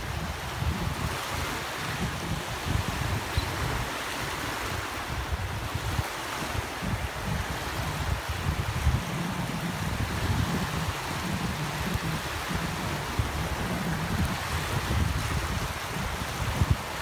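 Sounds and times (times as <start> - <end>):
small waves washing on sand: 0.0 - 17.0
wind rumbling on microphone: 0.0 - 17.0.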